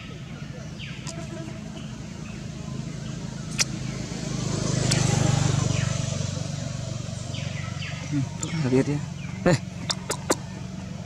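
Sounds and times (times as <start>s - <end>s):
vehicle engine passing by: 0.1s - 11.0s.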